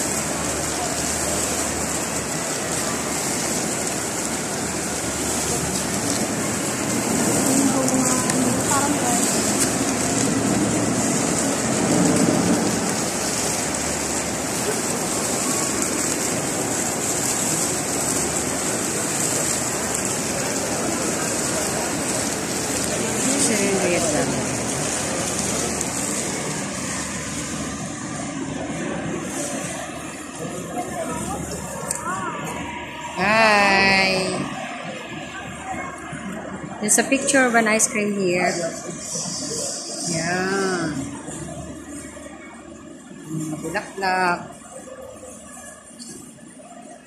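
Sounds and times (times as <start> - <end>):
fountain water splashing: 0.0 - 47.0.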